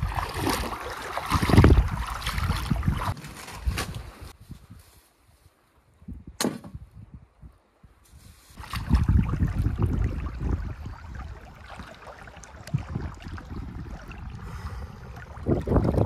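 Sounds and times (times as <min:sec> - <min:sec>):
wind buffeting microphone: 0:00.0 - 0:04.8, 0:06.0 - 0:16.0.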